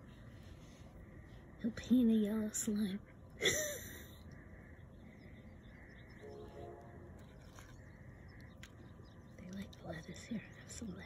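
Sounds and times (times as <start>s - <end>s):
faint distant sounds: 0.0s - 11.0s.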